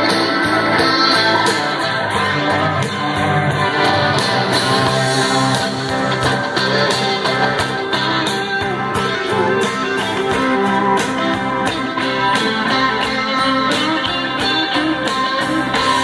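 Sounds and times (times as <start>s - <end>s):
guitar music with steady beat: 0.0s - 16.0s.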